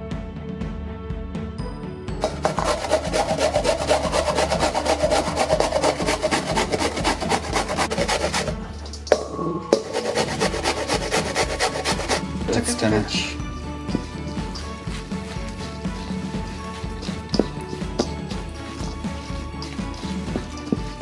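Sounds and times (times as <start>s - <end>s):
vegetables grated on metal grater: 2.2s - 8.8s, 9.8s - 12.8s, 13.6s - 21.0s.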